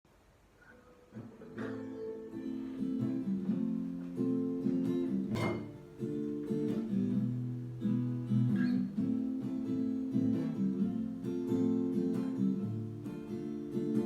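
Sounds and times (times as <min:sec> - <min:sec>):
acoustic guitar chords: 0:00.6 - 0:14.0.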